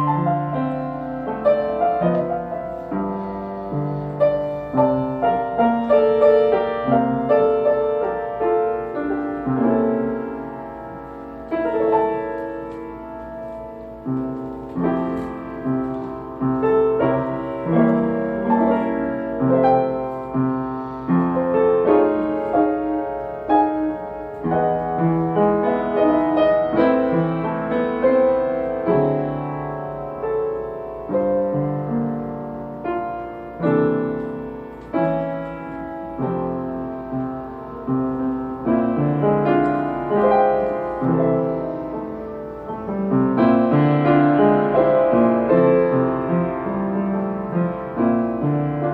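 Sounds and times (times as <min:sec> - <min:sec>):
solo jazz piano ballad: 0:00.0 - 0:48.9.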